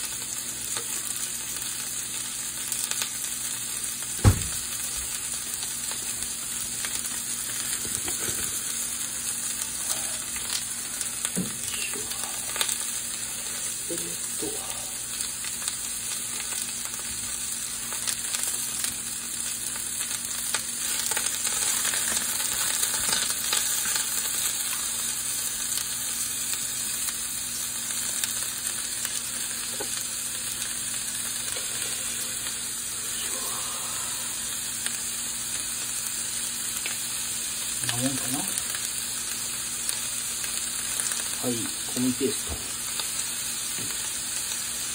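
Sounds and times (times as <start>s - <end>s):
food sizzling in a frying pan: 0.0s - 44.9s.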